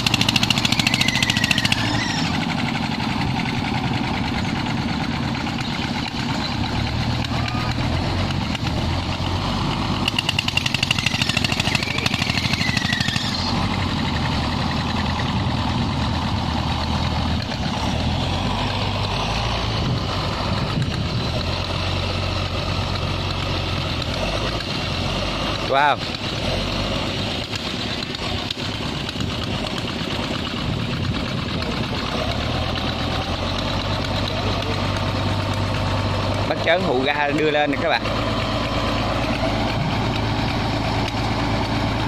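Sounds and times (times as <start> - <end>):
boat diesel engine running: 0.0 - 42.0.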